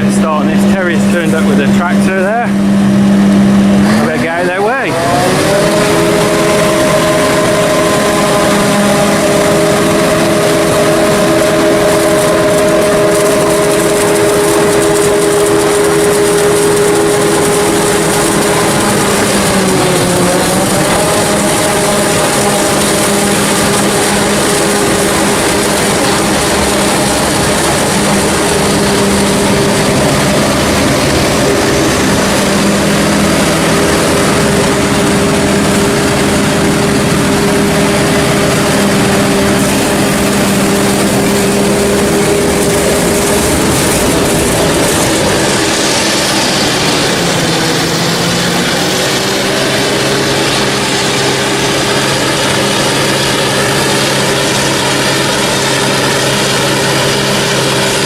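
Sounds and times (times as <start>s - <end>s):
dense mechanical noise: 0.0s - 58.0s
heavy diesel engines running: 0.0s - 58.0s.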